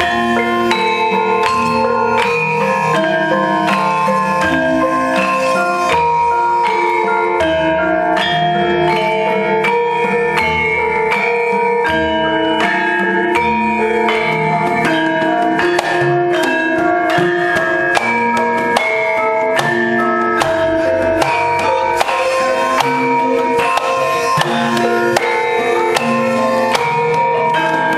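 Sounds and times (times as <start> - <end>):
hand drum strokes: 0.0 - 27.9
metallophones and gongs ringing: 0.0 - 27.9.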